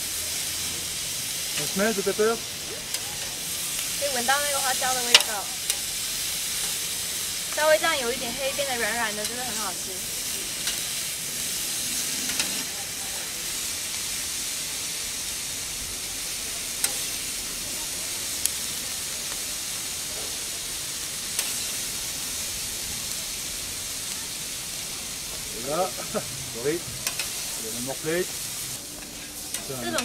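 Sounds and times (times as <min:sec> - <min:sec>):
vegetables sizzling on a griddle: 0:00.0 - 0:30.0.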